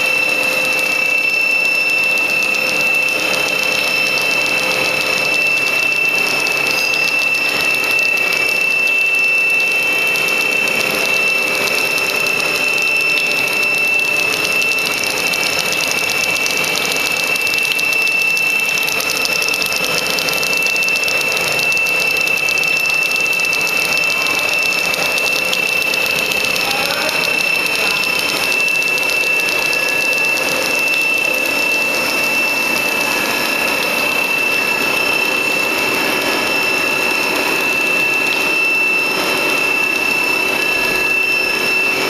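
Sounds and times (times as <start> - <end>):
high-pitched whine: 0.0 - 42.0
machine running: 0.0 - 42.0.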